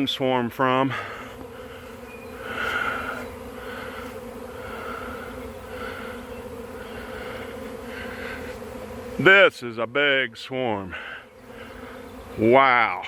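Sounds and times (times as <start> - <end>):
swarm of bees buzzing: 0.0 - 13.0.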